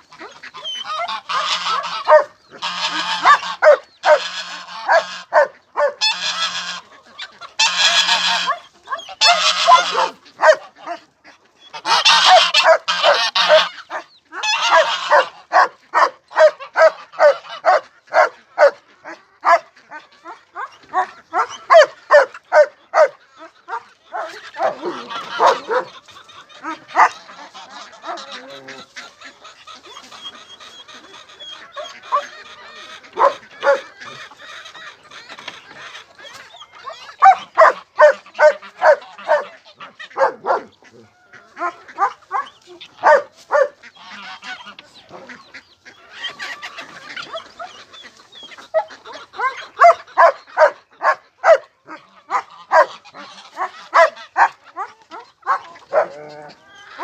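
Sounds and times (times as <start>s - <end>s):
poultry squawking and honking: 0.0s - 57.0s.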